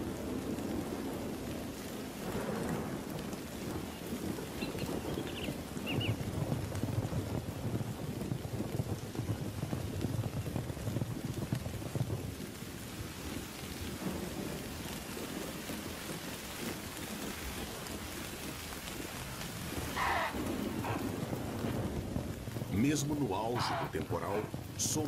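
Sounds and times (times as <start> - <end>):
heavy rain: 0.0 - 25.0
thunder rumbling: 0.0 - 25.0.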